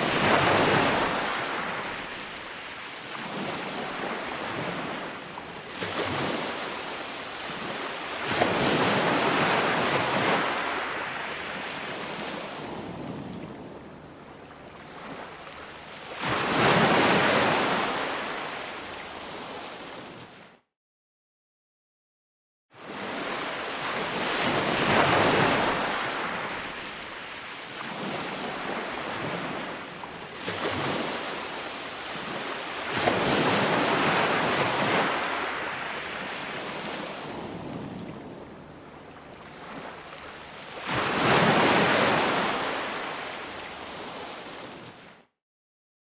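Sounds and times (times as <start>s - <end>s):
ocean waves breaking on shore: 0.0s - 20.6s, 22.8s - 45.3s.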